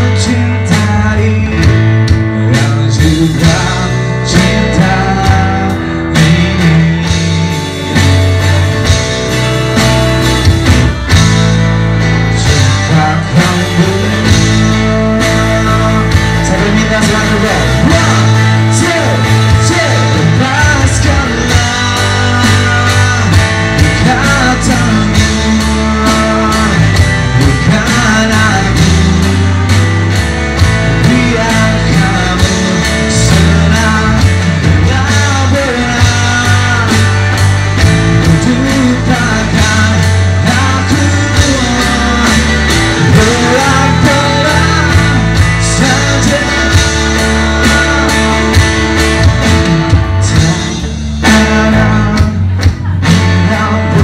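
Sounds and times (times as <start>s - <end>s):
man singing: 0.0s - 7.8s, 12.1s - 54.0s
electric guitar: 0.0s - 54.0s
drum beat: 0.7s - 54.0s.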